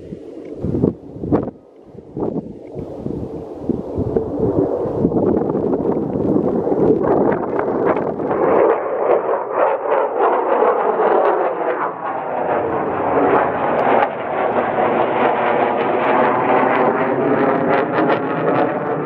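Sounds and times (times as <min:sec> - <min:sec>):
jet flying overhead: 0:00.0 - 0:19.0.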